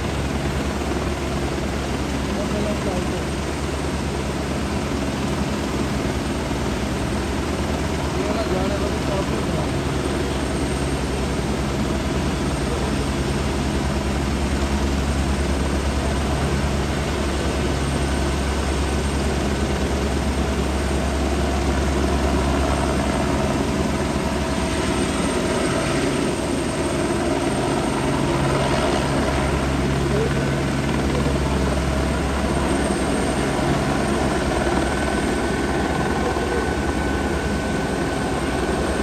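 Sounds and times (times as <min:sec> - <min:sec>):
helicopter rotor chopping: 0:00.0 - 0:39.0.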